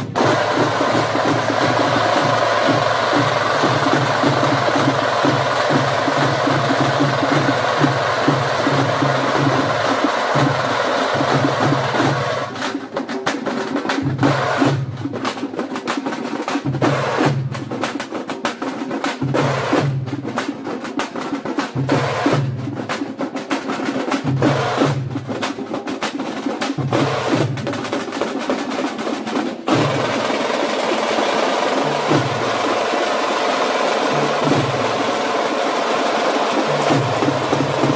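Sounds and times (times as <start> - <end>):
frame drums beaten fast: 0.0 - 37.9.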